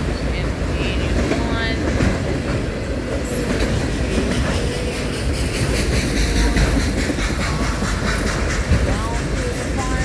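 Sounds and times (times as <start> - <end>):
freight train rumbling past: 0.0 - 10.0
wheels clicking over rail joints: 0.0 - 10.0.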